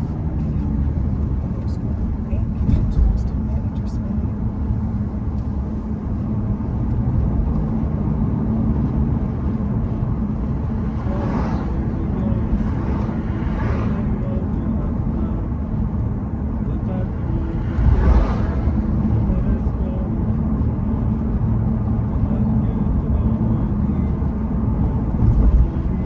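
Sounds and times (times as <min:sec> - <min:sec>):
car rumbling on the road: 0:00.0 - 0:26.0.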